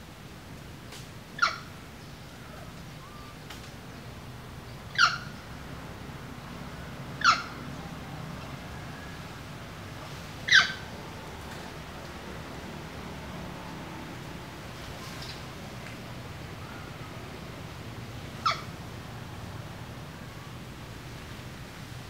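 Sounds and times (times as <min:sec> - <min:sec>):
low background hiss: 0:00.0 - 0:22.0.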